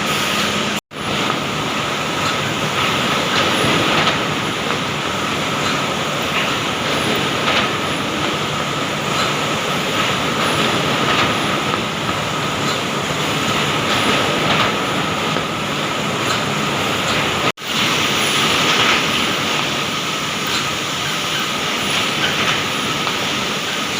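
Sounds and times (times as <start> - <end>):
industrial machinery running: 0.0 - 23.9
machine whine: 0.0 - 23.9.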